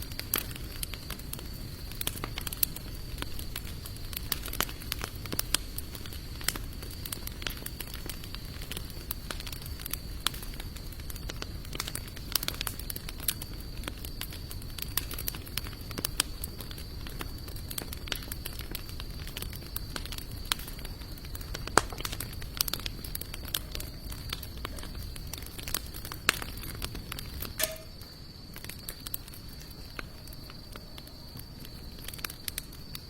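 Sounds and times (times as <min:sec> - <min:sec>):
low rumble of burning: 0:00.0 - 0:33.0
wood fire crackling and popping: 0:00.0 - 0:33.0.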